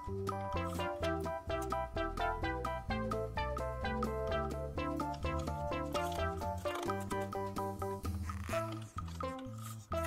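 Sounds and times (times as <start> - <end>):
instrumental tune with bass line: 0.0 - 10.0.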